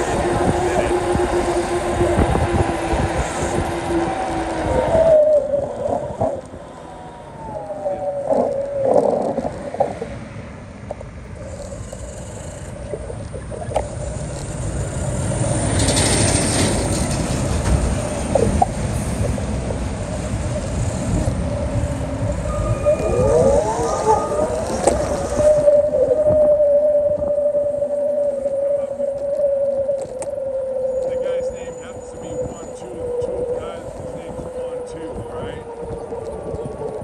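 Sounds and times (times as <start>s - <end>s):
rising tones: 0.0s - 11.3s, 12.8s - 37.0s
vehicles passing: 0.0s - 37.0s.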